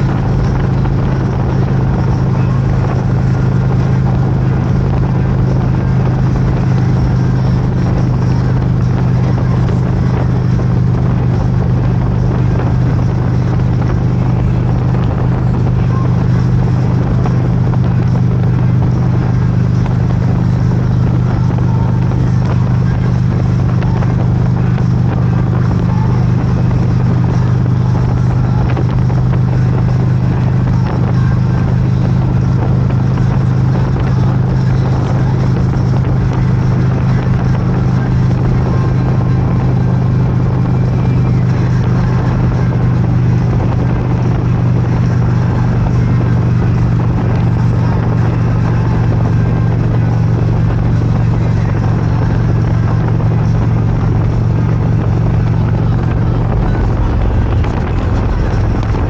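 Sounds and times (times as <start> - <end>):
motorcycle engine drone: 0.0 - 59.0
wind and road rush: 0.0 - 59.0.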